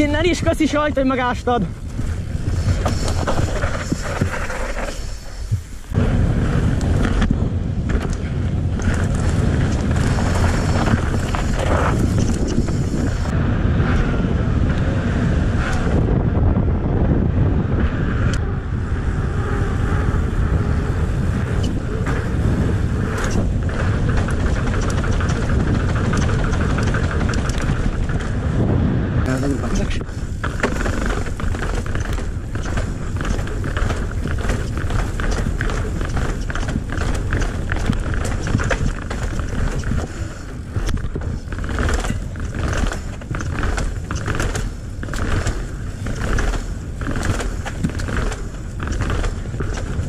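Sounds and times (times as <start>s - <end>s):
bike clicks and rattles: 0.0s - 14.9s, 19.4s - 28.6s, 29.2s - 50.0s
bike tyres on pavement: 0.0s - 50.0s
wind on microphone: 0.0s - 50.0s.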